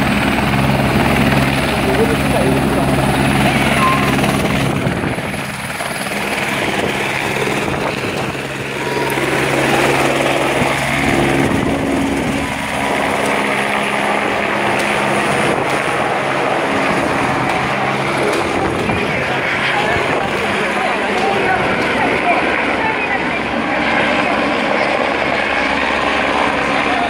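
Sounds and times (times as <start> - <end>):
helicopter engine and rotor: 0.0 - 27.0.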